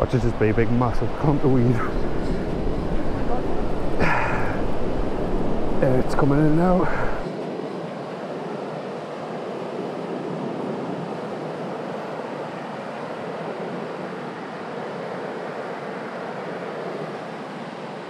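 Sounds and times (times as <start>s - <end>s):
surf breaking on shore: 0.0s - 18.0s
wind: 0.0s - 18.0s.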